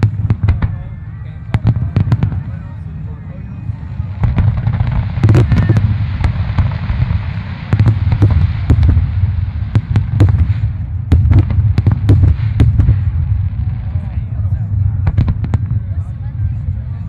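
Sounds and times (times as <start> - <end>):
fireworks cracking and banging: 0.0 - 16.8
low booming: 0.0 - 17.0.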